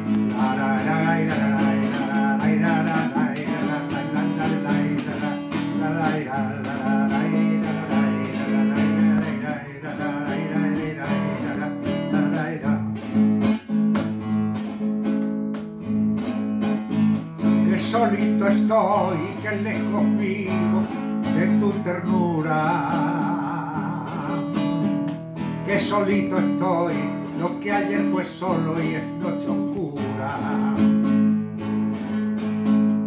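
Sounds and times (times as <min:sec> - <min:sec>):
classical guitar playing: 0:00.0 - 0:33.0.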